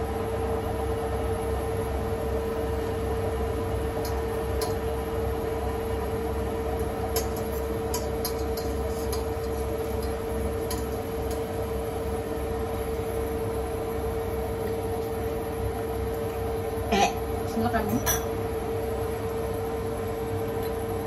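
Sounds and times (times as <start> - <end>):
range hood fan humming: 0.0 - 21.0.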